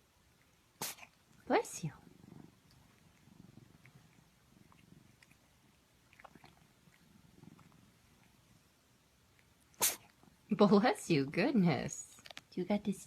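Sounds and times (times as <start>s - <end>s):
cat purring: 0.2s - 11.0s.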